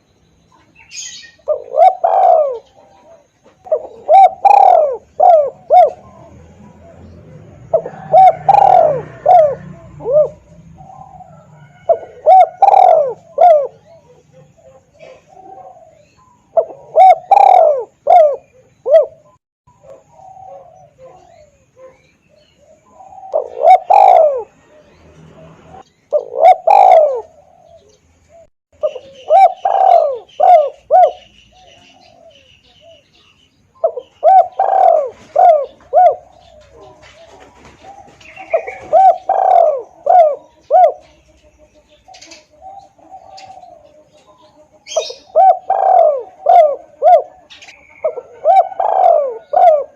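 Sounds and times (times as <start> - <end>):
dove cooing: 0.8 - 33.2, 33.8 - 49.9.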